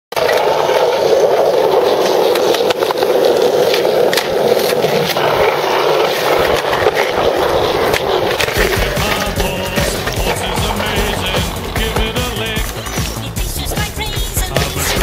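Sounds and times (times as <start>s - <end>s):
skateboard clicks: 0.1s - 15.0s
skateboard wheels rolling on concrete: 0.1s - 15.0s.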